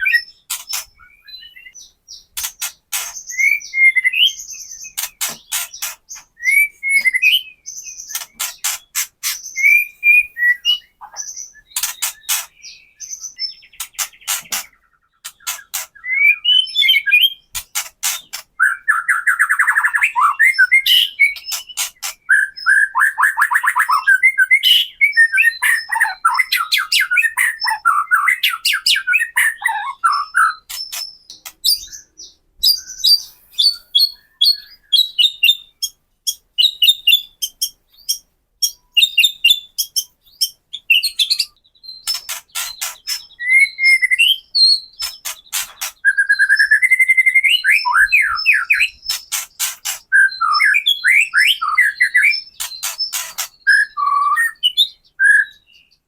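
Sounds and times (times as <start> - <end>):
bird whistled song: 0.0 - 56.0.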